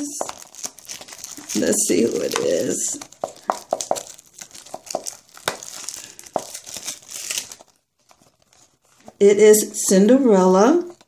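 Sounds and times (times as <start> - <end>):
cardboard packaging crinkling: 0.0 - 9.3, 10.6 - 11.0.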